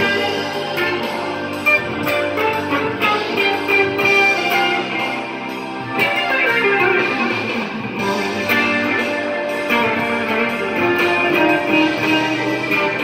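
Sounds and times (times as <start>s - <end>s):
electric guitar melody: 0.0s - 13.0s.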